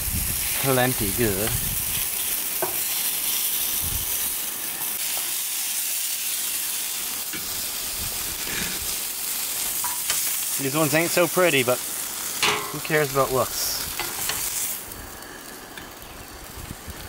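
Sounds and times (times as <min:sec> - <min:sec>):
fish frying with steady sizzle: 0:00.0 - 0:17.0.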